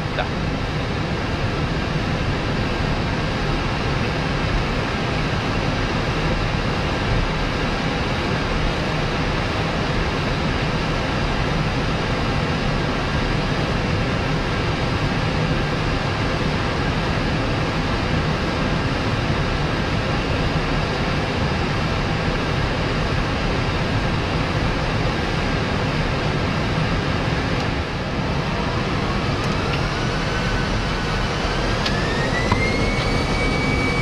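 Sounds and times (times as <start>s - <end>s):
aircraft engine rumble and airflow hiss: 0.0s - 34.0s
jet engines whining spooling up: 0.0s - 34.0s.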